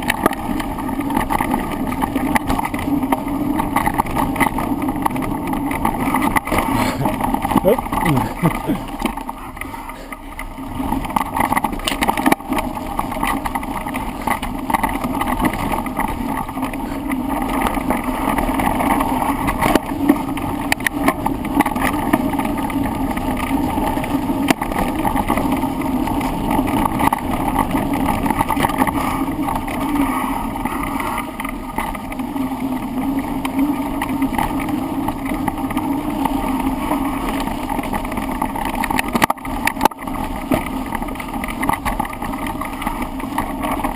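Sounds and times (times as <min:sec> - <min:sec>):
bike tyres and frame rattling: 0:00.0 - 0:43.9.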